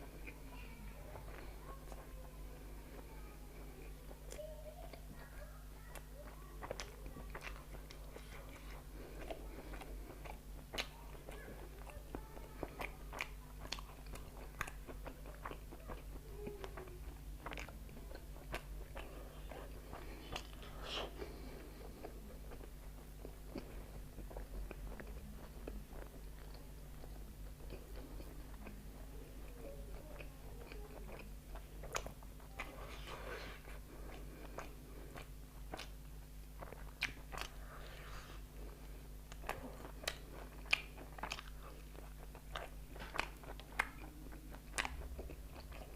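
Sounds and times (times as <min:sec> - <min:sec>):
chewing and crunching: 0:00.0 - 0:45.9
steady low hum: 0:00.0 - 0:45.9.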